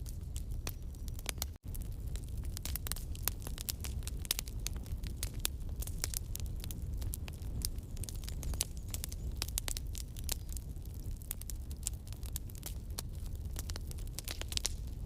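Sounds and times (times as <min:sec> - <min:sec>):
low rumble of flames: 0:00.0 - 0:15.0
wood crackling and popping: 0:00.0 - 0:15.0.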